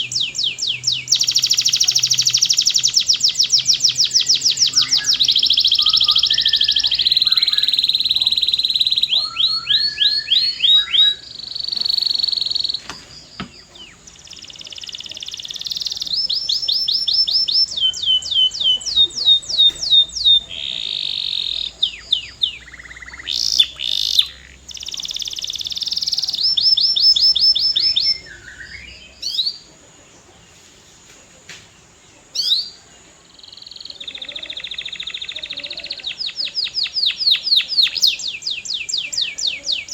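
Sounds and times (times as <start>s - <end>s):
canary singing trills: 0.0s - 30.4s, 32.1s - 39.9s.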